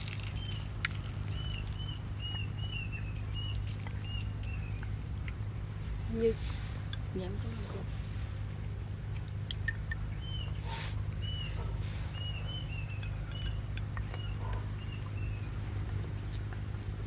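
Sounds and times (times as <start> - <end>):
low background hum: 0.0 - 17.0
small birds chirping: 0.0 - 17.0.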